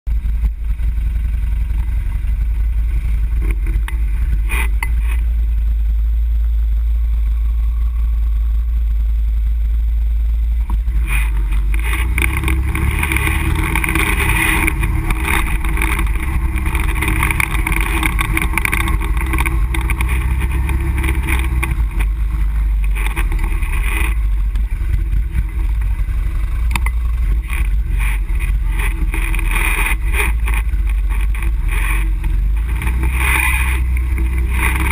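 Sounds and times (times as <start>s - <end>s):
off-road vehicle engine running: 0.0s - 34.9s
road noise: 0.0s - 34.9s.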